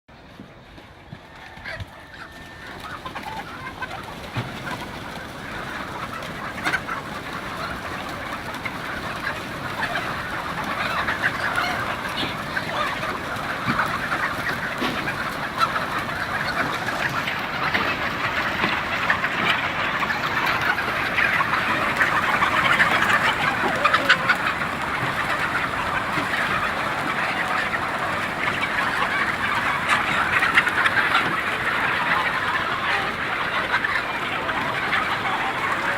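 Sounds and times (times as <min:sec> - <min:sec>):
chickens clucking: 0:00.2 - 0:35.9.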